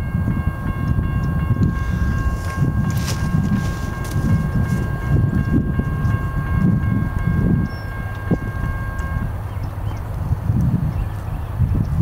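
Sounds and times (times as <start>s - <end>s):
crossing warning bell ringing: 0.0s - 10.2s
low uneven rumble: 0.1s - 12.0s.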